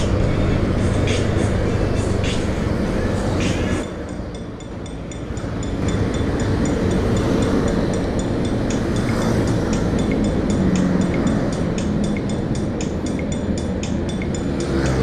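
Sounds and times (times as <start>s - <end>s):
fast steady ticking: 0.0s - 15.0s
road traffic rumbling: 0.0s - 15.0s.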